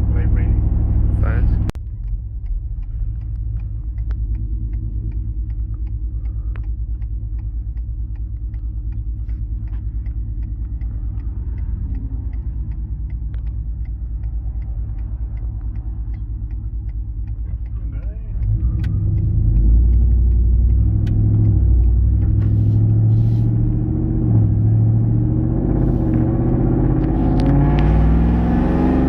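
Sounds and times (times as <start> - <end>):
deep engine exhaust rumble: 0.0 - 29.0
light regular ticking: 1.2 - 29.0.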